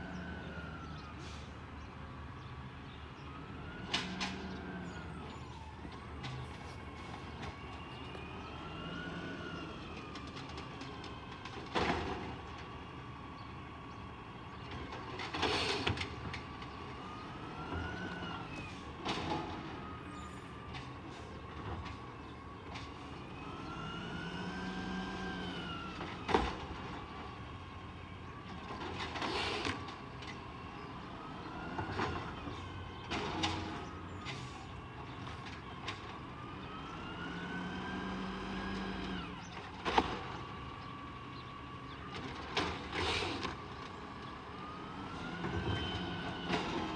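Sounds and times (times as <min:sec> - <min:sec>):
garbage truck engine: 0:00.0 - 0:46.9.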